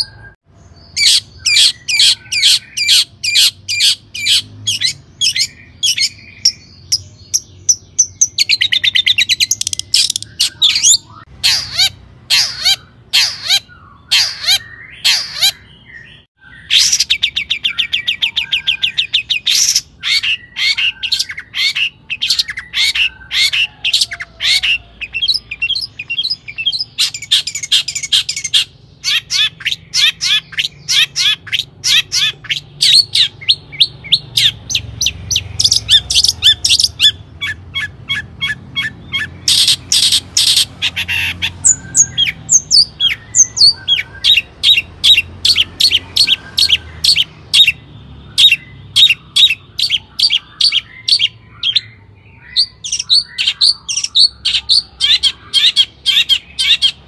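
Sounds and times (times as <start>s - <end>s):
bird singing harsh notes: 0.0s - 57.0s.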